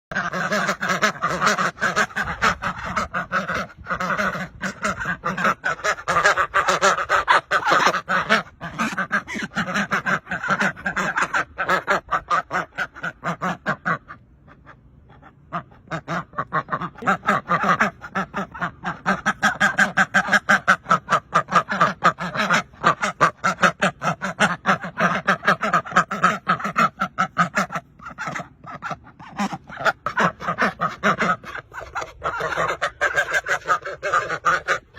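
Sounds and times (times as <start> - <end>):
flock of birds calling: 0.1 - 34.9.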